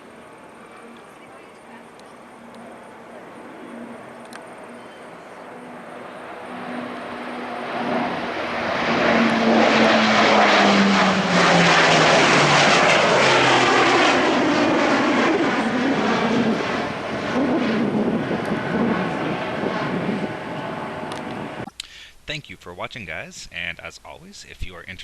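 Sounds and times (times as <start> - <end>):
turboprop aircraft flying past: 0.0 - 21.7.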